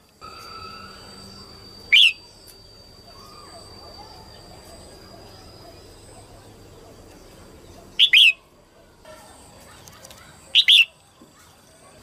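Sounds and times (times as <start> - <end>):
faint background noise: 0.0 - 12.0
bird chirping call: 0.2 - 8.5, 9.2 - 12.0.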